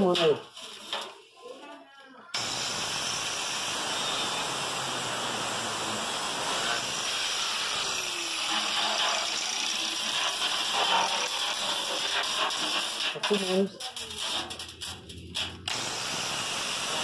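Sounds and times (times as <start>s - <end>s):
angle grinder cutting metal: 2.4s - 13.6s, 14.2s - 17.0s.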